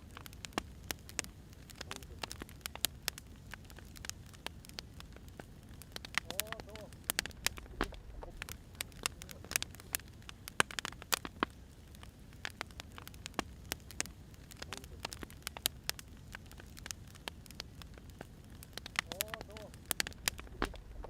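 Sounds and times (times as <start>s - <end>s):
low steady hiss: 0.0s - 21.0s
wood fire crackling: 0.0s - 21.0s.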